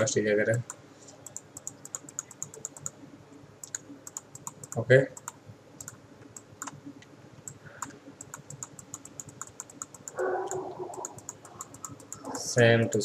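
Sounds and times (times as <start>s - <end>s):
computer mouse and keyboard clicking: 0.0s - 3.0s, 3.6s - 12.7s.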